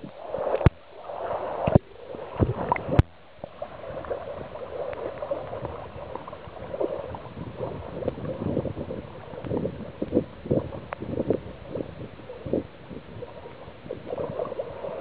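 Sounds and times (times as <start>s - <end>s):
water lapping and gurgling: 0.0s - 15.0s.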